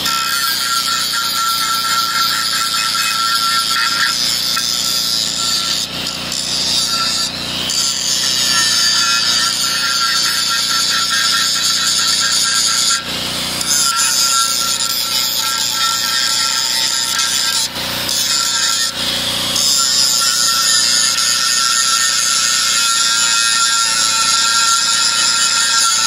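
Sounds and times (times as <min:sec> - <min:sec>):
angle grinder grinding steel: 0:00.0 - 0:26.0.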